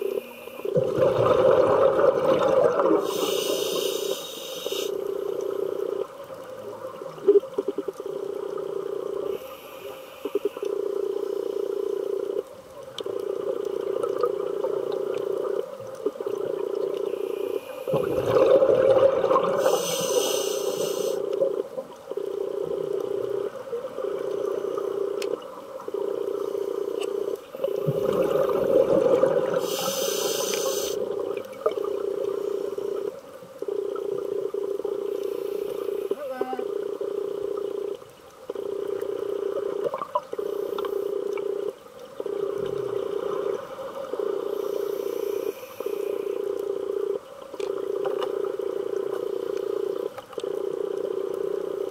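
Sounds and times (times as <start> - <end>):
exhaled bubbles underwater: 0.0 - 9.4, 11.8 - 51.9
steady droning hum: 0.0 - 51.9.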